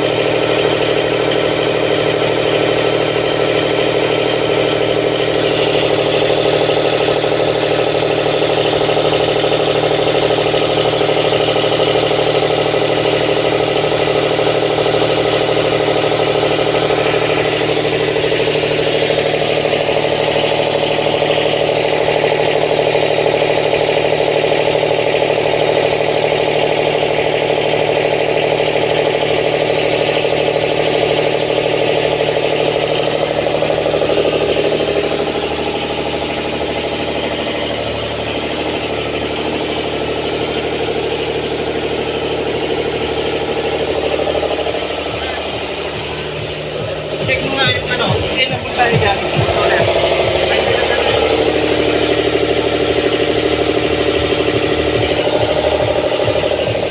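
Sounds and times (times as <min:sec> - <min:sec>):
generator engine running: 0:00.0 - 0:56.9.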